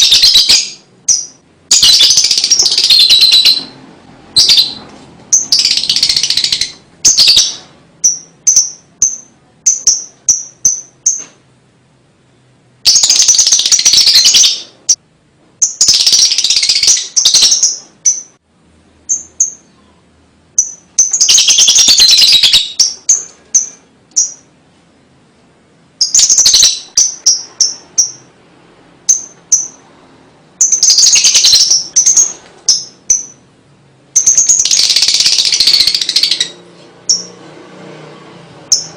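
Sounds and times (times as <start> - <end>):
lovebird chattering and chirping: 0.0 - 11.3, 12.8 - 15.0, 15.6 - 18.4, 19.0 - 24.6, 26.0 - 28.4, 29.0 - 29.9, 30.6 - 37.4, 38.6 - 38.9.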